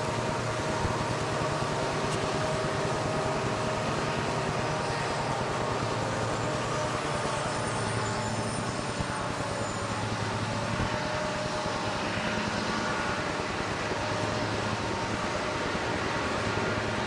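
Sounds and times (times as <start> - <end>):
diesel locomotive engines droning: 0.0 - 17.0.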